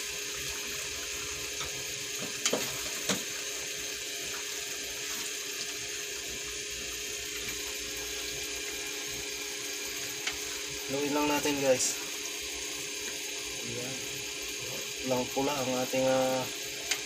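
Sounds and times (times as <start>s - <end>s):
stew sizzling in a pan: 0.0s - 17.0s.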